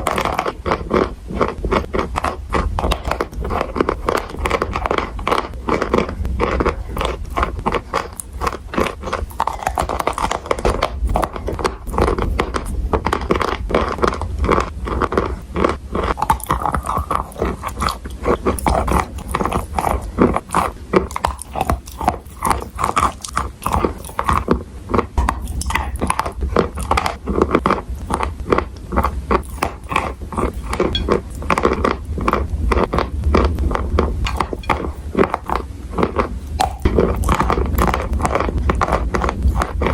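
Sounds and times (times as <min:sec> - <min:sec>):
dry crunchy chewing: 0:00.0 - 0:39.9.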